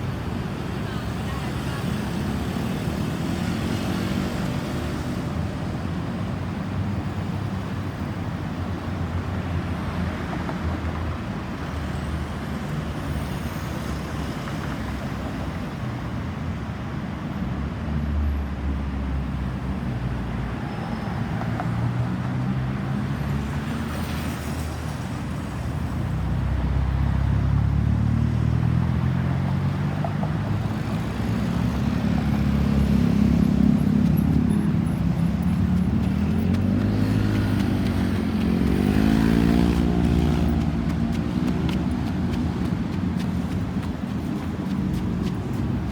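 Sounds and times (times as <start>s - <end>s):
vehicle engines passing: 0.0s - 15.6s, 17.8s - 45.9s.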